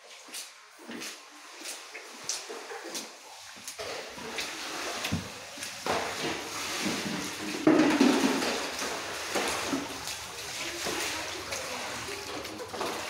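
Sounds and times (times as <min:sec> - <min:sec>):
boots splashing through water: 0:00.0 - 0:13.0.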